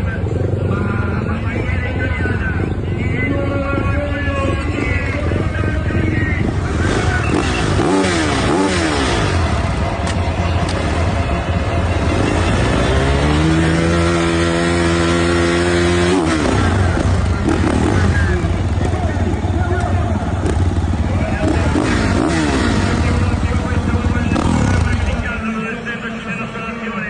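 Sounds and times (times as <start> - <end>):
motorbike engine revving: 3.7 - 25.9.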